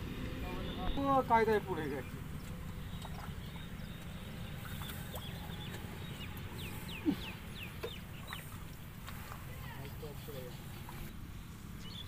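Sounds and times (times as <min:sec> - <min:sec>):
bird chirping: 0:00.5 - 0:11.1, 0:11.7 - 0:12.0.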